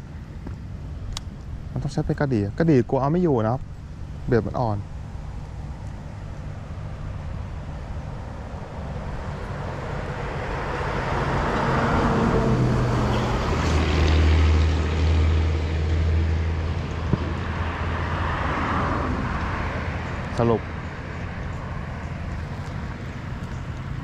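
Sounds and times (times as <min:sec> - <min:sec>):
passing engine drone: 0:04.0 - 0:24.0.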